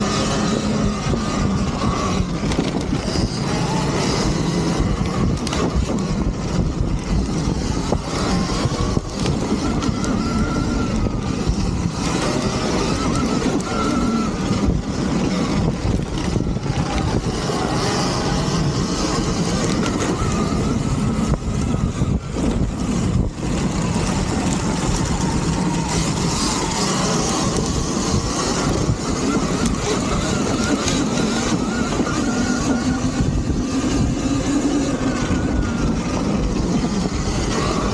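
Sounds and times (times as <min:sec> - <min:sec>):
electric motor whine: 0:00.0 - 0:37.9
steady rushing noise: 0:00.0 - 0:37.9.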